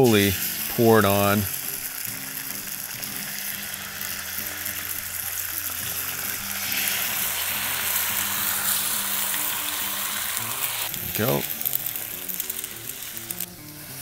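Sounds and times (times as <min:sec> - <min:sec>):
eggs sizzling on griddle: 0:00.0 - 0:14.0.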